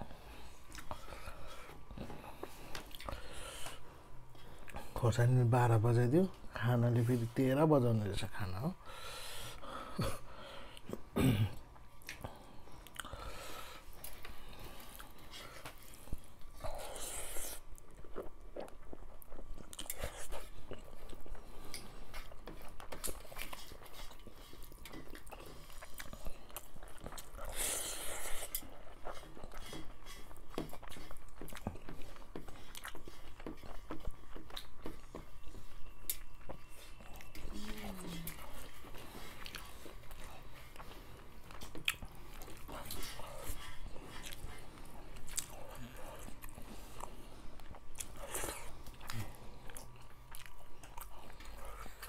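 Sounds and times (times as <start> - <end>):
chewing and wet mouth noises: 0.0 - 52.0.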